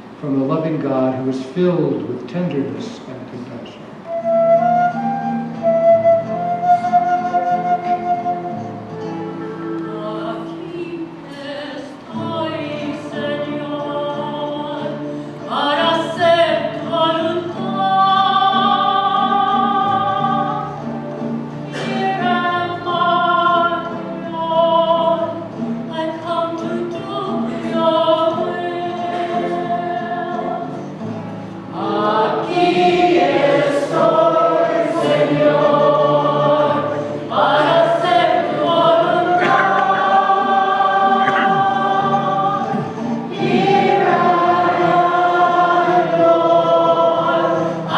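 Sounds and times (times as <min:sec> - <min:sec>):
church choir singing: 0:08.9 - 0:47.9.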